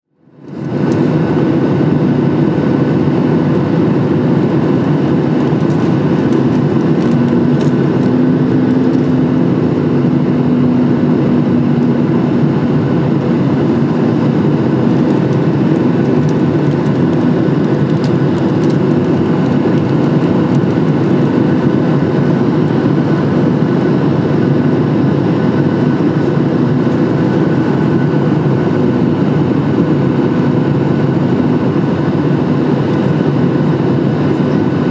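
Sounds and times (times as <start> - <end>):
airplane cabin drone: 0.1 - 34.9.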